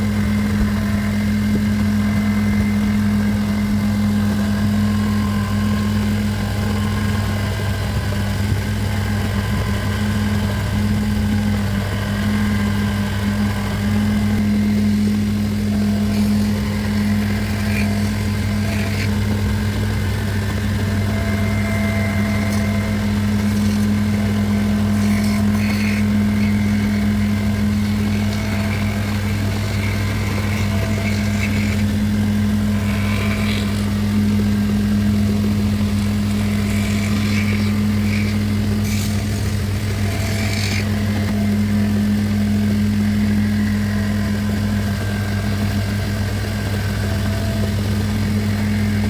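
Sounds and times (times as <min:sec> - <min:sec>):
electric motor humming: 0:00.0 - 0:49.0.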